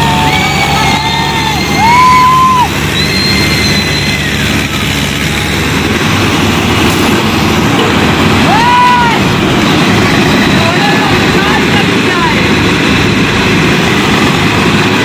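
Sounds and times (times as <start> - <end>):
diesel tractor engines under load: 0.0 - 15.0.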